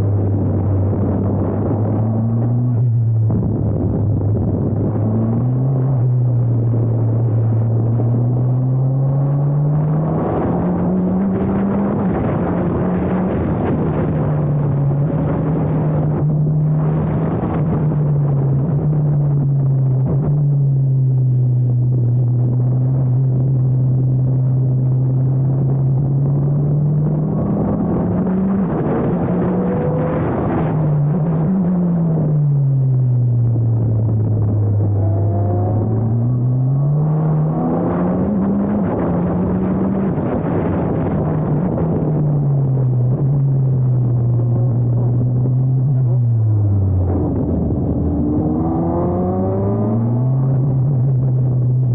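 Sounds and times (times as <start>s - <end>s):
racing car engine buzzing: 0.0s - 51.9s.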